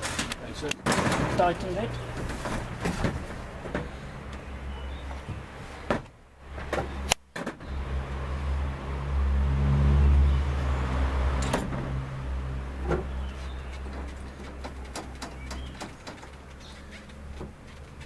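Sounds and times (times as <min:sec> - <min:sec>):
vehicle engine humming: 0:01.4 - 0:18.0.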